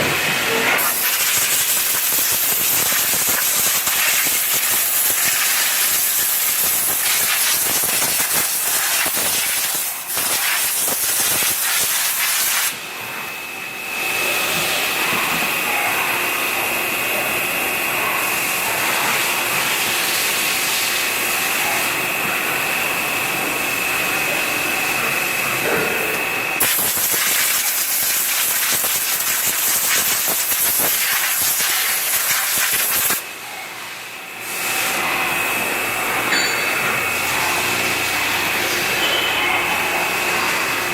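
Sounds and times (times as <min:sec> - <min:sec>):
machine running with loud hiss: 0:00.0 - 0:40.9.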